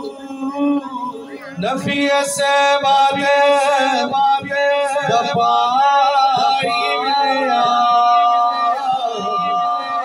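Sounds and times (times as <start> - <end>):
man singing devotional song: 0.0 - 10.0.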